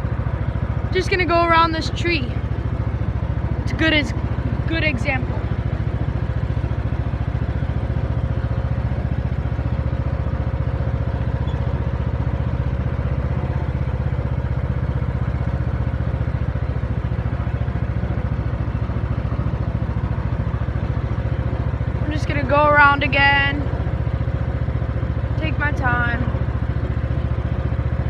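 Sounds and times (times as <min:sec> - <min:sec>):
riding lawnmower engine running: 0:00.0 - 0:28.0.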